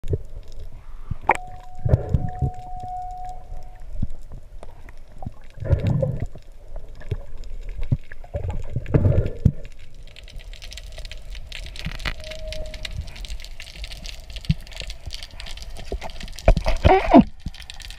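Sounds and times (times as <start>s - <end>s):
underwater water rumble: 0.0s - 17.9s.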